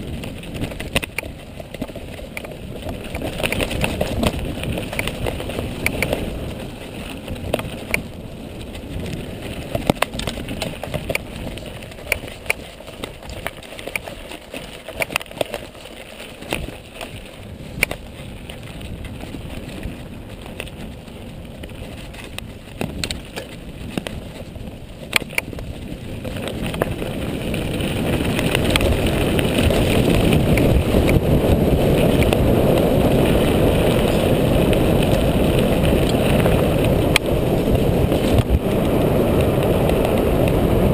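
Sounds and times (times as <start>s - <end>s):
bike clicks and rattles: 0.0s - 40.9s
bike tyre rumble on dirt: 0.0s - 40.9s
wind on microphone: 0.0s - 40.9s.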